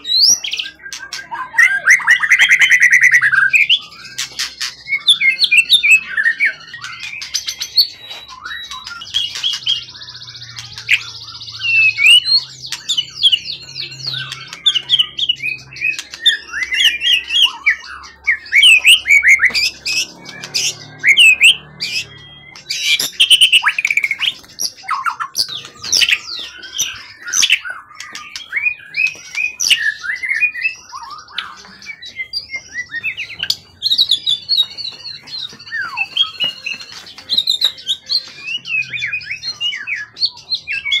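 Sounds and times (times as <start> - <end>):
songbird singing: 0.0 - 41.0.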